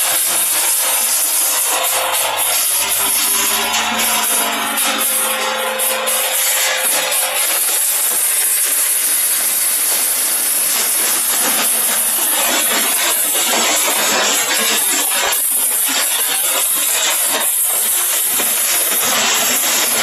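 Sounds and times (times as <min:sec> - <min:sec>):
stones rattling through chutes: 0:00.1 - 0:20.0.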